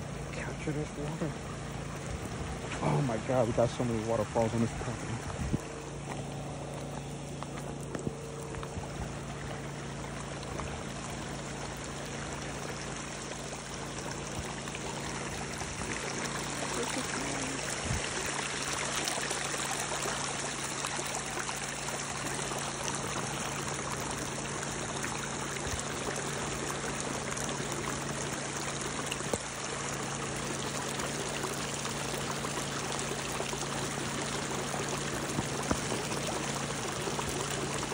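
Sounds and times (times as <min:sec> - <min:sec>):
water rushing over rocks: 0:00.0 - 0:37.9.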